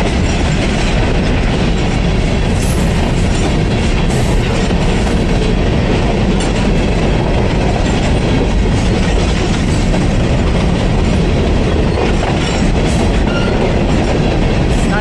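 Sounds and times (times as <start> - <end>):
steel train wheels on rails: 0.0 - 15.0.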